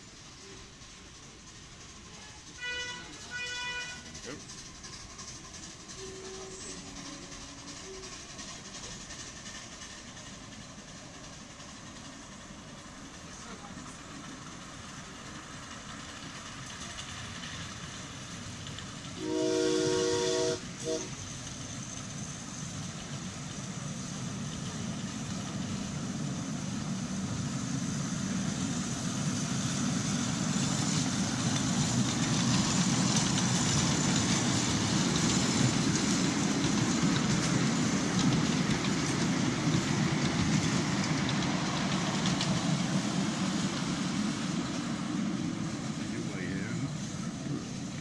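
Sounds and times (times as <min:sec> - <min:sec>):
miniature train rumbling past: 0:00.0 - 0:48.0.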